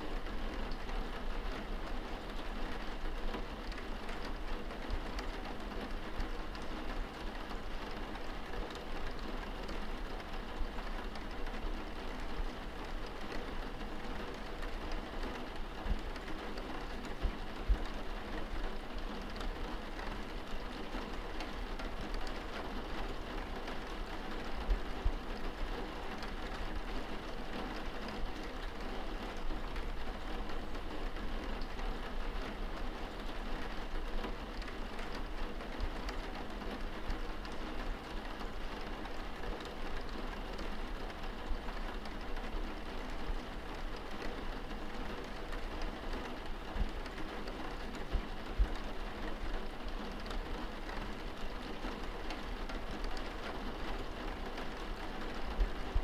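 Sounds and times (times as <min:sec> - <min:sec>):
rain pattering on window glass: 0:00.0 - 0:56.0.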